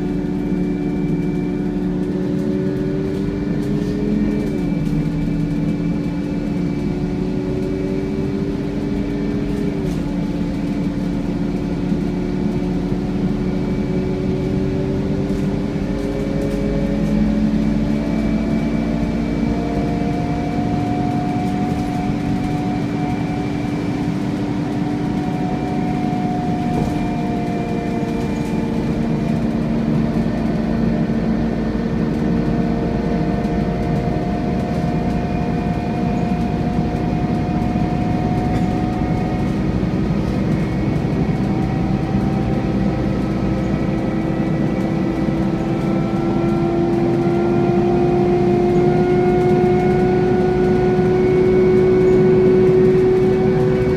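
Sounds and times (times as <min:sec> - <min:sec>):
bus engine whining drone: 0:00.0 - 0:53.9.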